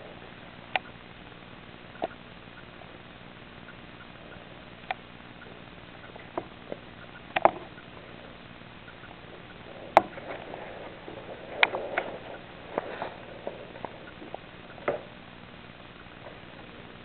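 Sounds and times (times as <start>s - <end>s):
small clicks and crackles in bedding: 0.0s - 17.0s
steady hiss: 0.0s - 17.0s.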